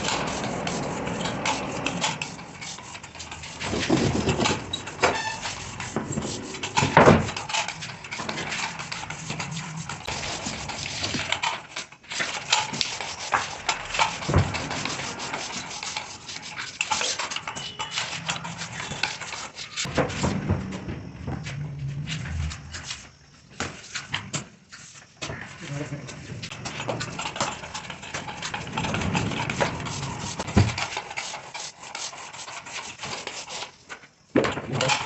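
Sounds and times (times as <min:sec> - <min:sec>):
rubbing and scraping on wood: 0:00.0 - 0:34.1.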